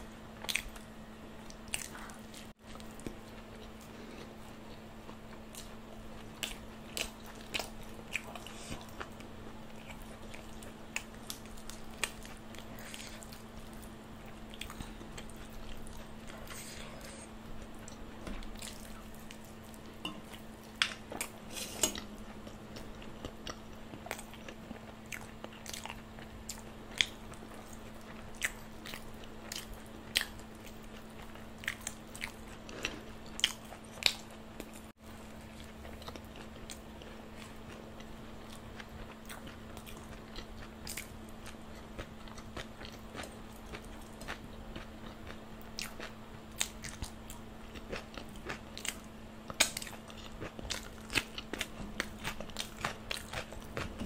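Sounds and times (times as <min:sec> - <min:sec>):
faint low hum: 0:00.0 - 0:54.0
person chewing crunchy food: 0:00.4 - 0:54.0.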